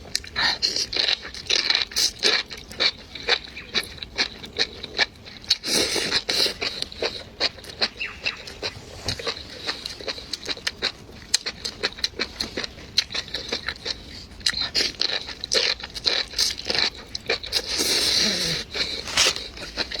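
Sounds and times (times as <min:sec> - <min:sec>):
wet chewing mouth clicks: 0:03.3 - 0:20.0.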